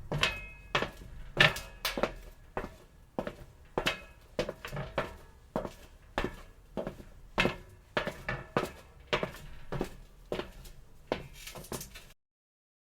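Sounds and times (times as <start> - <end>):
footsteps on metal: 0.0 - 12.2.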